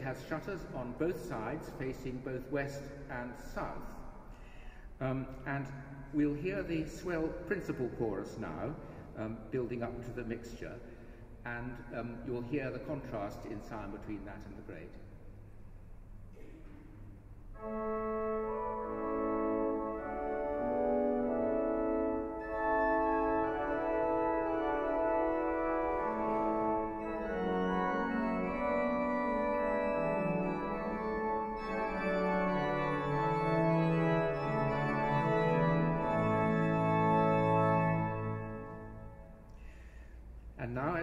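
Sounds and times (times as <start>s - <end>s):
pipe organ sustained chords: 0.0s - 16.2s, 17.1s - 41.0s.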